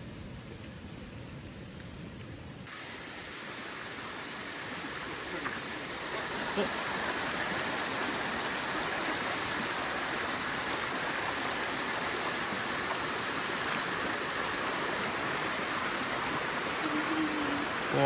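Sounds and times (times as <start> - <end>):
stream rushing: 2.7 - 18.0.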